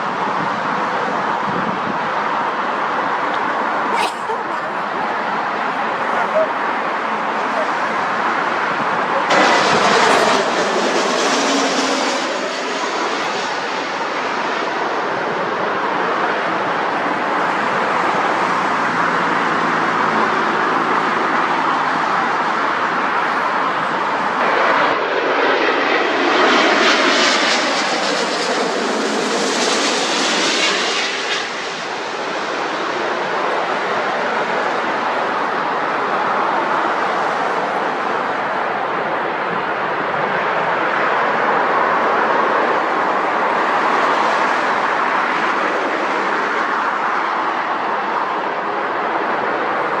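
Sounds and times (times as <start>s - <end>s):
jet engines roaring: 0.0s - 50.0s.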